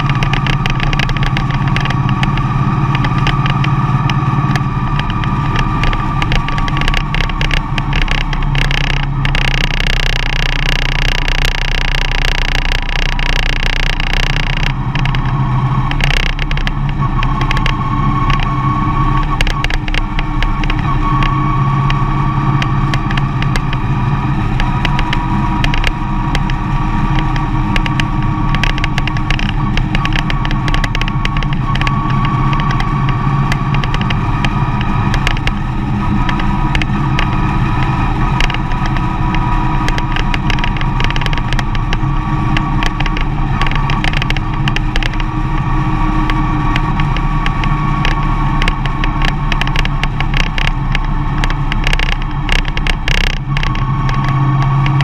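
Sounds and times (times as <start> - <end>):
van engine and road noise: 0.0 - 55.0.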